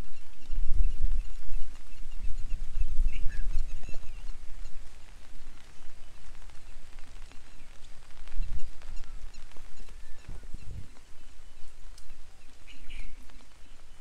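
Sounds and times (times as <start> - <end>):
faint rain hiss: 0.0 - 14.0
low uneven rumble: 0.0 - 14.0
faint bird chirps: 0.1 - 5.2, 5.8 - 14.0.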